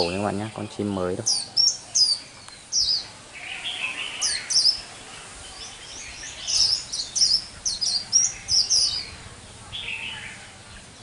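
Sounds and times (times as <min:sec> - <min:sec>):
bird singing high notes: 0:00.0 - 0:10.5.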